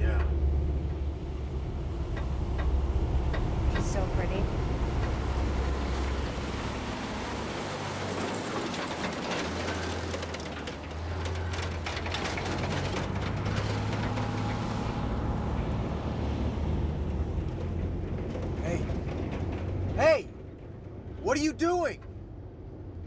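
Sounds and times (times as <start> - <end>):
vehicle engine and road drone: 0.0 - 23.0.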